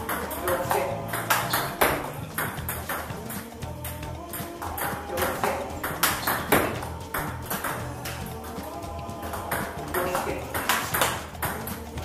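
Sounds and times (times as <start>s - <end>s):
background music: 0.0s - 12.0s
table tennis ball clicking: 0.0s - 12.0s.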